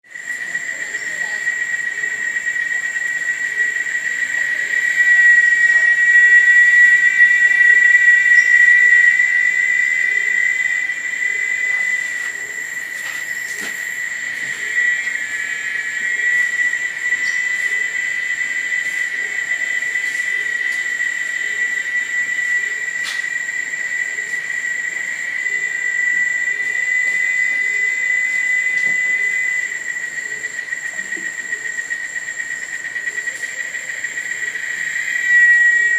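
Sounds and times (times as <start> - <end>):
high-pitched insect drone: 0.0 - 35.9.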